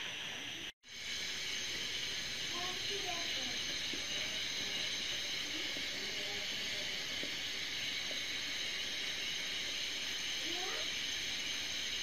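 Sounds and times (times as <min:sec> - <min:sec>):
steam hissing from pot: 0:00.0 - 0:12.0.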